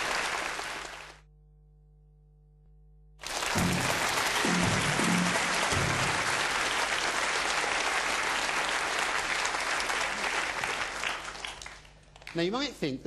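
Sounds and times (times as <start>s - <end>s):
audience applauding: 0.0s - 1.2s, 3.2s - 12.5s.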